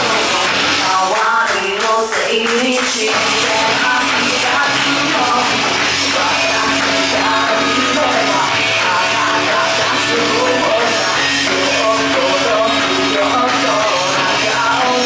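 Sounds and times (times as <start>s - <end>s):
loud backing track: 0.0s - 15.0s
woman singing into microphone: 0.0s - 15.0s.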